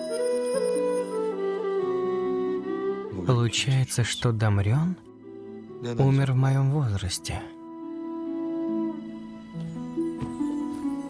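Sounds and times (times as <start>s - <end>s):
slow sad bowed strings: 0.4s - 11.0s.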